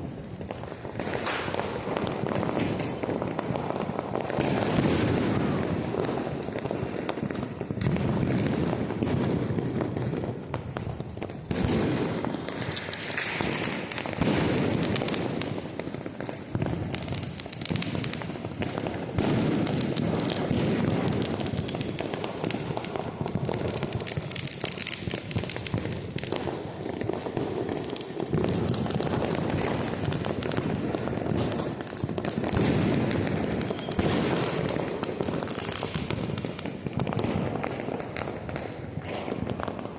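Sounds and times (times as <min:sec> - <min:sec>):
firecrackers crackling: 0:00.0 - 0:39.9
loud firework bangs: 0:00.0 - 0:39.9.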